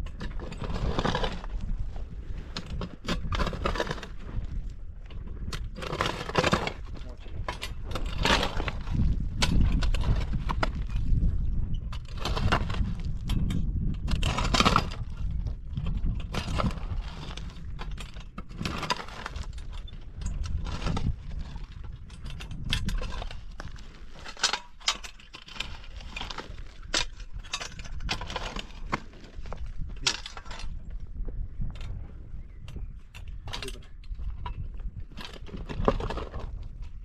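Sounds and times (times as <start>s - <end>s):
shovel scraping stony soil: 0.0s - 4.6s, 5.4s - 30.8s.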